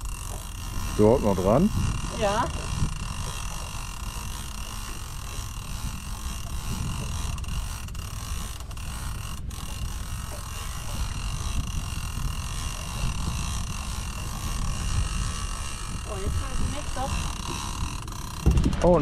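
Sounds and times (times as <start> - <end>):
fishing reel whirring: 0.0 - 19.0.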